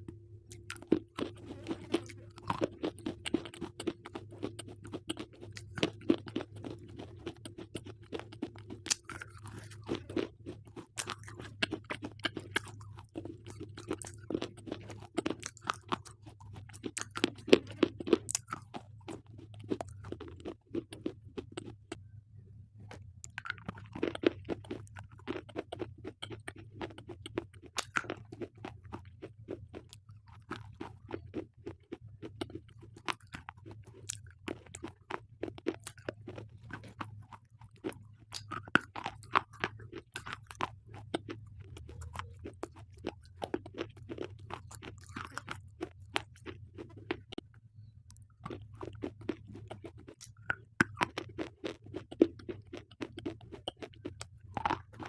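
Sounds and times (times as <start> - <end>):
crunching and chewing: 0.0 - 22.0, 22.8 - 55.0
faint steady hum: 0.0 - 55.0.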